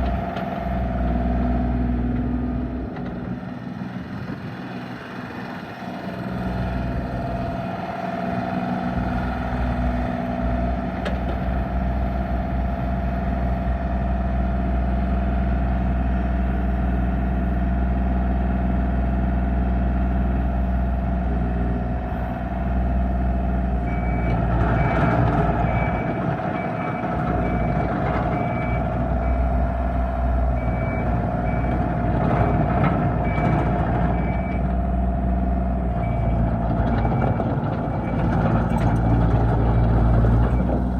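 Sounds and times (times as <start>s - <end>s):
diesel engine running with whine: 0.0s - 40.9s.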